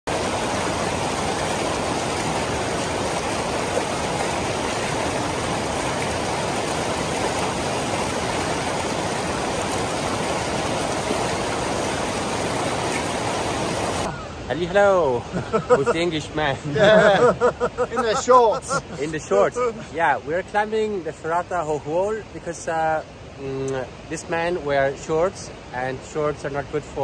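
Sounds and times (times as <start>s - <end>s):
stream rushing over stones: 0.1s - 27.0s.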